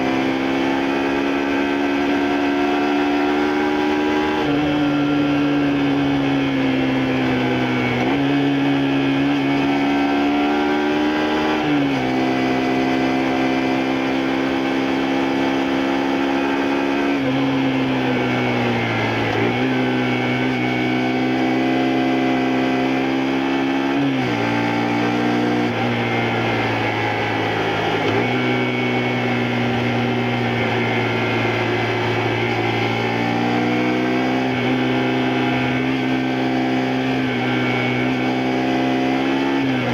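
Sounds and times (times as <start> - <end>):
motorcycle engine changing gears: 0.1 - 39.9.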